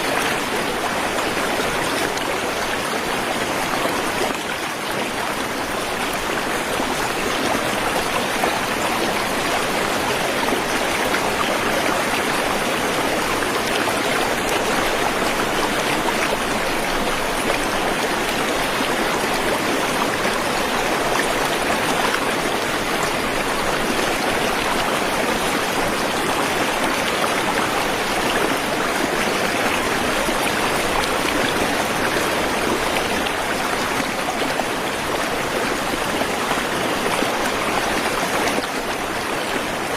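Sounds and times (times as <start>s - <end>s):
waterfall and stream water rushing: 0.0s - 39.9s.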